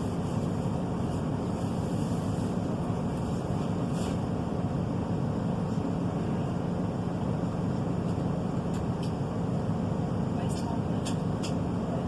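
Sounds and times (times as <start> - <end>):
diesel railcar rumble: 0.0 - 12.0.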